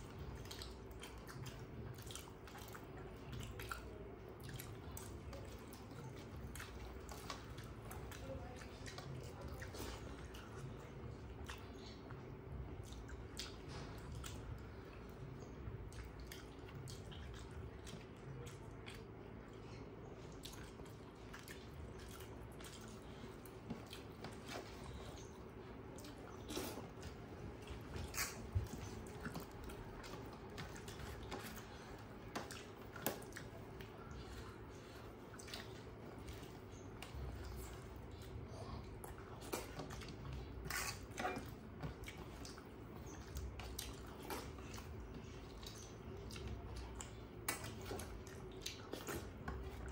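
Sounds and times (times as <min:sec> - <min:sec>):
chewing and lip smacks: 0:00.0 - 0:49.9
faint steady hum: 0:00.0 - 0:49.9
fingers squishing food: 0:00.0 - 0:49.9.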